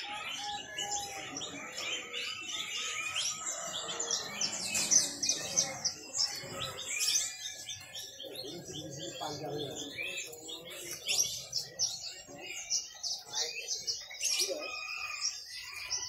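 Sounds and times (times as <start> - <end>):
canaries singing chorus: 0.0 - 16.0.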